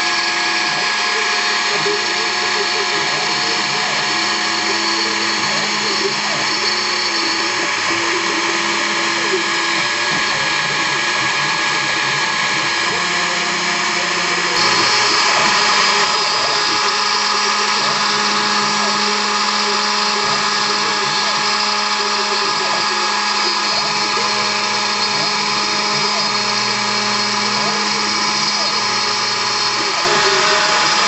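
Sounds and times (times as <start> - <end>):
cnc mill spindle milling: 0.0 - 31.0
machine whines shifting pitch: 0.0 - 31.0.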